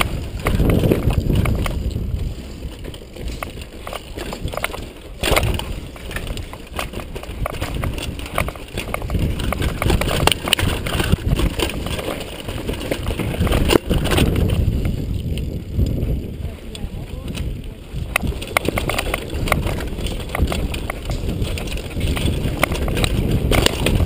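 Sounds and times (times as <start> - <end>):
bike knocks and clatters: 0.0 - 24.0
tyres rushing on dirt and rock: 0.0 - 24.0.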